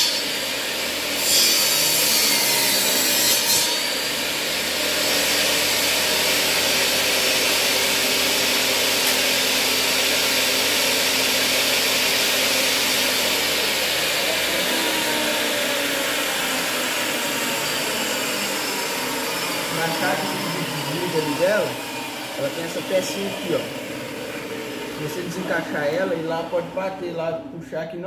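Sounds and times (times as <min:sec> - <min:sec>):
saw cutting wooden board: 0:00.0 - 0:27.3
table saw running: 0:00.0 - 0:28.0.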